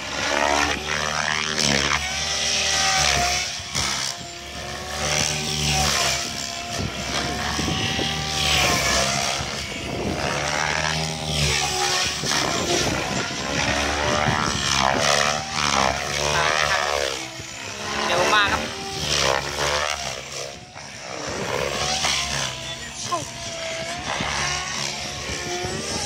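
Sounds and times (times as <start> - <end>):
helicopter rotor blades whirring: 0.0 - 26.0.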